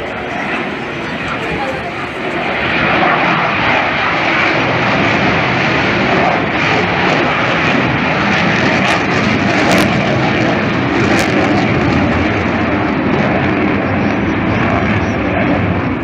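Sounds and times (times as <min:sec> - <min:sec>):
jet engine roar overhead: 0:00.0 - 0:16.0.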